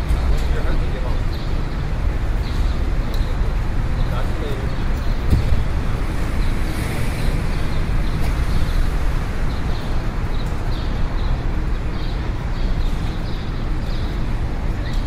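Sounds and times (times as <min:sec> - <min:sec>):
distant traffic: 0:00.0 - 0:15.0
wind: 0:00.0 - 0:15.0.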